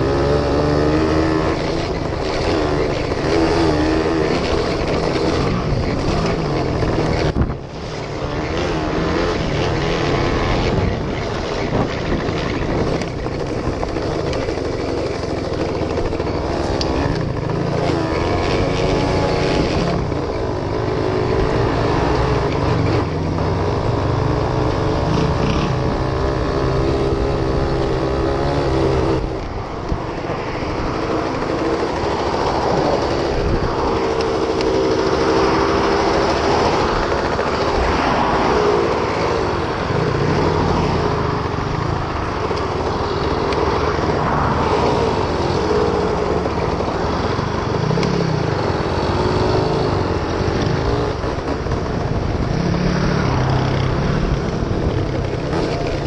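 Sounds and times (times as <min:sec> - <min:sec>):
two-stroke motorcycle engine revving: 0:00.0 - 0:56.0
wind noise on microphone: 0:00.0 - 0:56.0.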